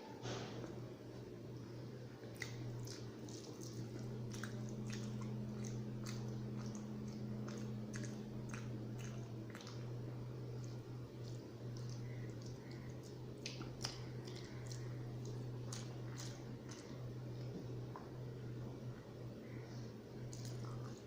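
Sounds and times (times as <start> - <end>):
steady low hum: 0.0 - 21.0
chewing and wet mouth sounds: 2.2 - 21.0.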